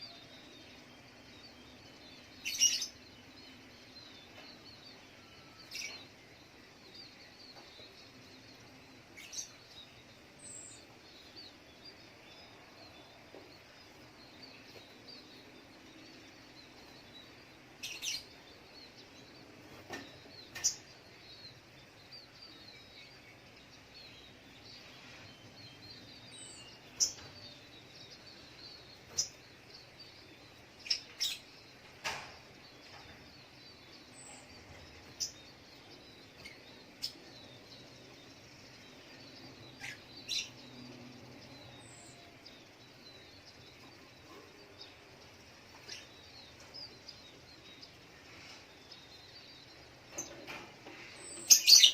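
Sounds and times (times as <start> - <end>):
bird chirping: 0.0 - 51.9
faint background noise: 0.0 - 51.9.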